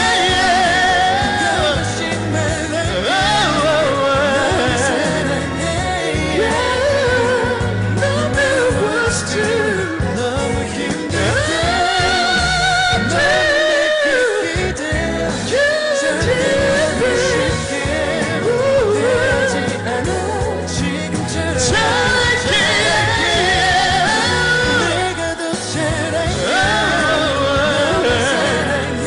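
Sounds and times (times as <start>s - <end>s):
band accompaniment: 0.0s - 29.0s
man singing with vibrato: 0.0s - 29.0s.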